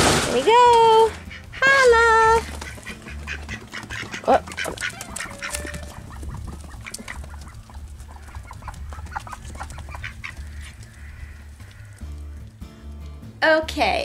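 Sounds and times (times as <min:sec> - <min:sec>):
hens clucking: 0:00.8 - 0:12.6.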